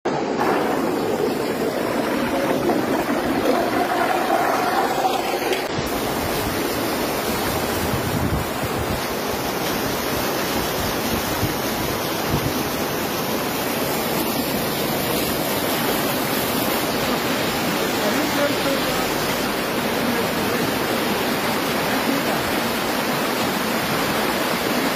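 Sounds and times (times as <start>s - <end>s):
flood water rushing: 0.1s - 24.9s.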